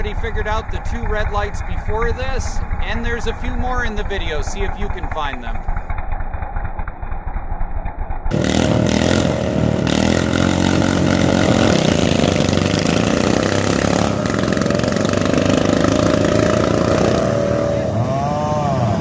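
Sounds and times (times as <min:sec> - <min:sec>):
lawn tractor engines at full throttle: 0:00.0 - 0:19.0.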